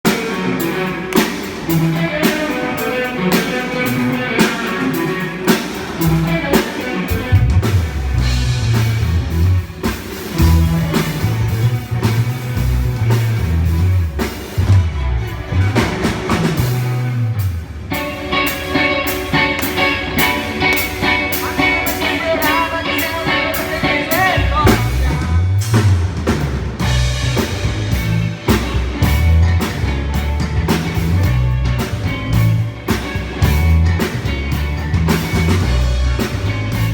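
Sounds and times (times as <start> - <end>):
rock band playing: 0.0 - 36.9
steady drum beat: 0.0 - 36.9
low bass notes: 0.1 - 36.9.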